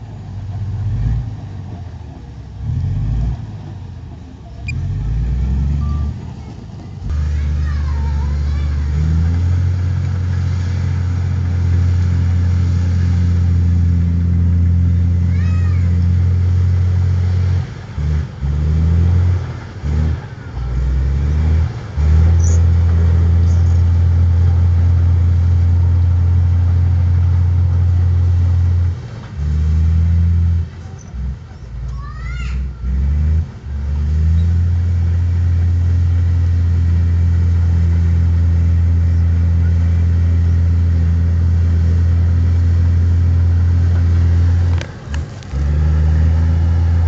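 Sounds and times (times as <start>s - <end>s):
heavy diesel engine droning: 0.0s - 47.0s.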